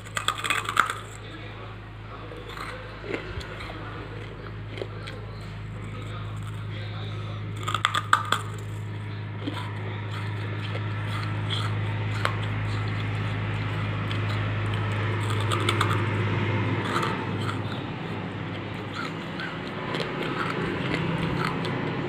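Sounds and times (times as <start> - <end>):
gritty crunching chewing: 0.0 - 22.0
low hum: 0.0 - 22.0.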